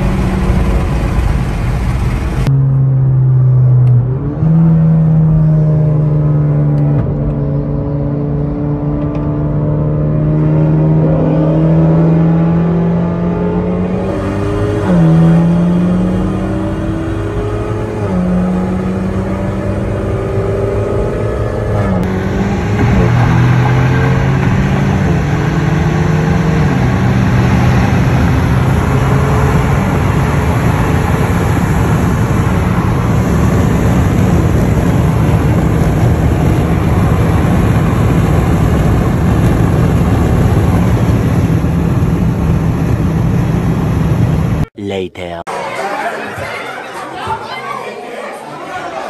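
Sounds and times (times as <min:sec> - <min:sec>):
car engine and road noise: 0:00.0 - 0:45.4.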